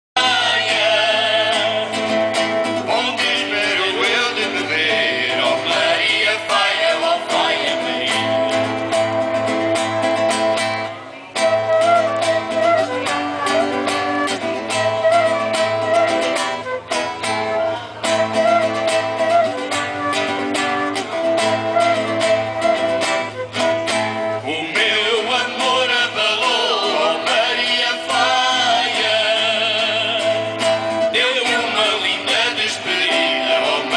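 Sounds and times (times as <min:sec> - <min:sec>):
live band guitar music: 0:00.2 - 0:33.9.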